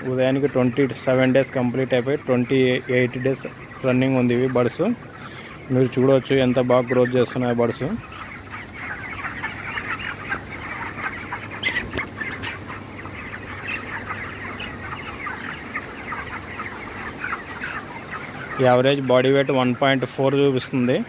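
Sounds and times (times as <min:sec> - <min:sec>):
chickens peeping and clucking: 0:00.0 - 0:21.0.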